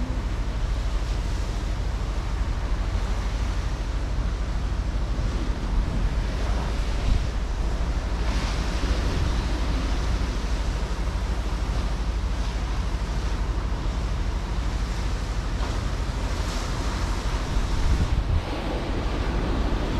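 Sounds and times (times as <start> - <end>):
sea waves washing in: 0.0 - 19.9
wind buffeting microphone: 0.0 - 19.9.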